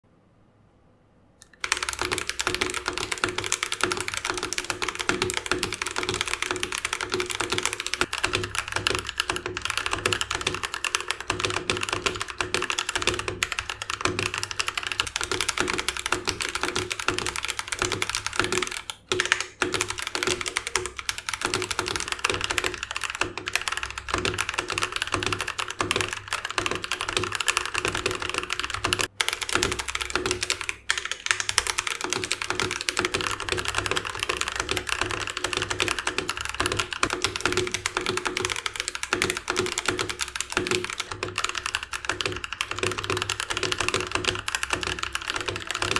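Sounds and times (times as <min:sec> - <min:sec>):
mechanical keyboard typing: 0:01.4 - 0:45.9.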